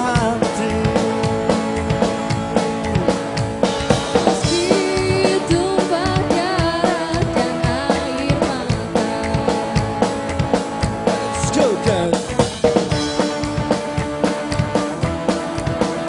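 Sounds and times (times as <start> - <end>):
drum kit beat: 0.0 - 16.0
electric guitar: 0.0 - 16.0.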